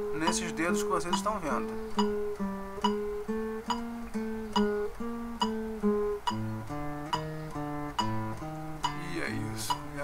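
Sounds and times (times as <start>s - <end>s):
nylon-string guitar plucked notes: 0.0s - 10.0s.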